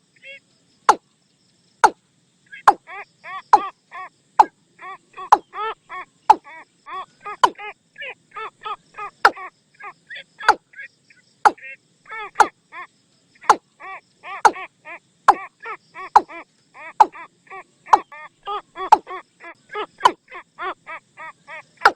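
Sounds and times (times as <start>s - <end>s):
bird hollow calls: 1.8s - 7.7s, 8.4s - 12.6s, 13.4s - 14.7s, 15.3s - 21.9s.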